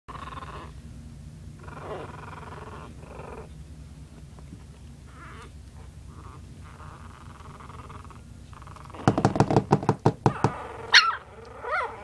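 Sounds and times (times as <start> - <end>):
puppies growling in play: 0.1 - 0.9, 1.5 - 9.4, 10.3 - 12.0.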